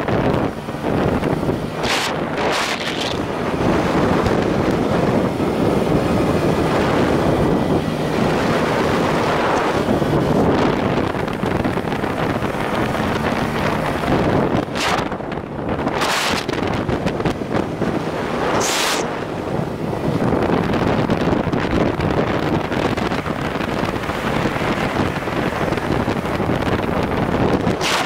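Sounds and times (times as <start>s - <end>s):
motorcycle engine running: 0.0s - 28.0s
wind rushing on microphone: 0.0s - 28.0s.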